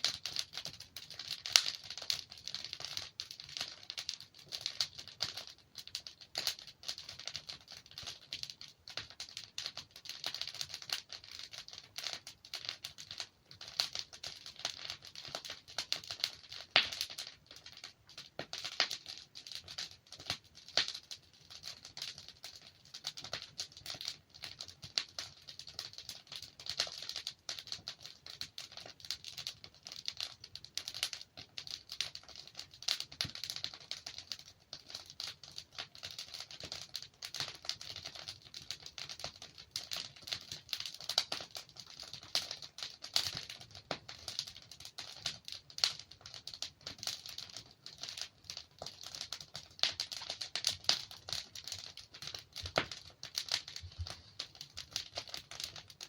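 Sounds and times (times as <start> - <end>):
burning logs popping: 0.0 - 56.0
wood fire crackling: 0.0 - 56.0.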